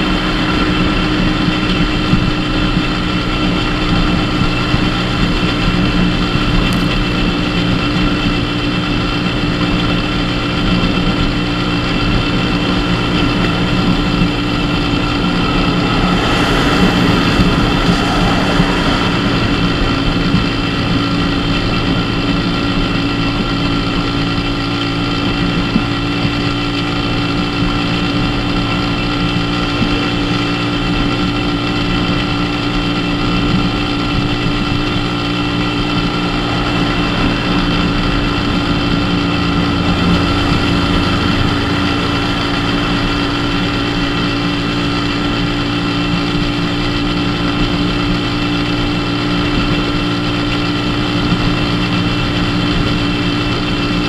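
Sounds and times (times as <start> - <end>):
moped engine running steadily: 0.0 - 54.0.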